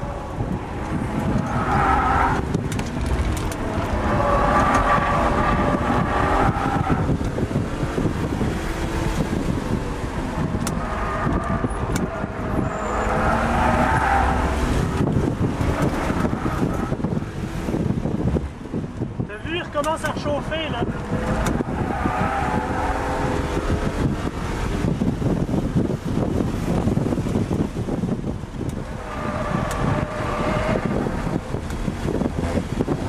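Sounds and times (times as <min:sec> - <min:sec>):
car engine revving: 0:00.0 - 0:33.0
tires squealing: 0:00.0 - 0:33.0.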